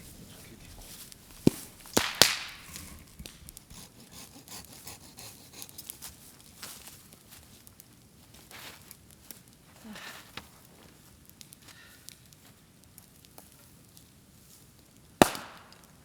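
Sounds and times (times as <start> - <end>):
bamboo popping in fire: 0.0 - 3.8, 5.7 - 16.0
fire crackling: 0.0 - 16.0.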